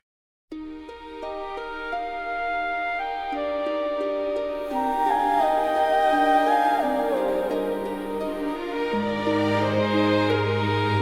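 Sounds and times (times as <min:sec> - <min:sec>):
gentle instrumental music: 0:00.5 - 0:11.0.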